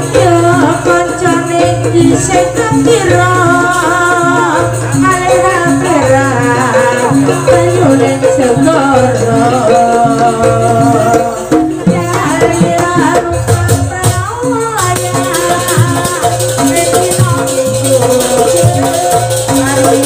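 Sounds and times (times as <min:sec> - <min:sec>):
gamelan ensemble playing: 0:00.0 - 0:20.0.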